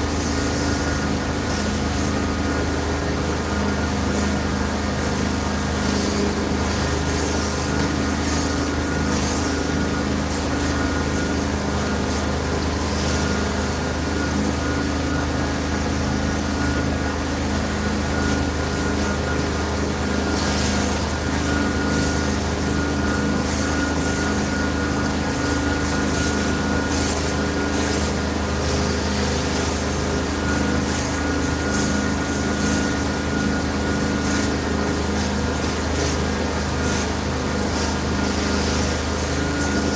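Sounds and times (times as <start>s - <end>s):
carpet cleaning machine droning: 0.0s - 39.9s.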